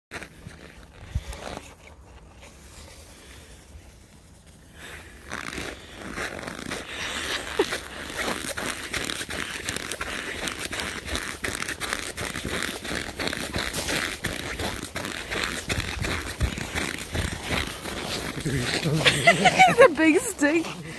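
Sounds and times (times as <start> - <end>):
footsteps crunching in snow: 0.1 - 20.9.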